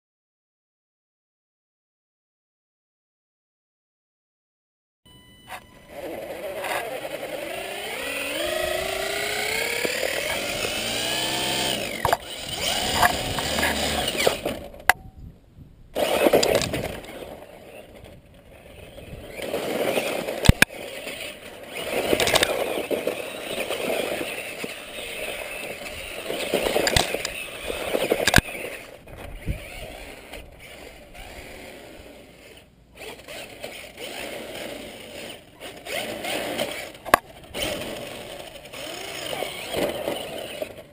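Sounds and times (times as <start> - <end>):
toy truck motor and gears whining: 5.4 - 15.0, 15.9 - 40.9.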